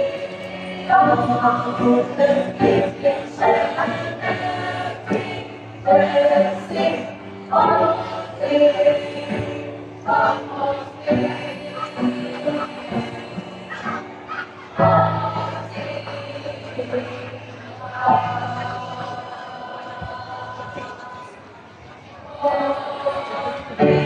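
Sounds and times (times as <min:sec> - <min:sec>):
youth choir singing in parts: 0:00.0 - 0:24.0.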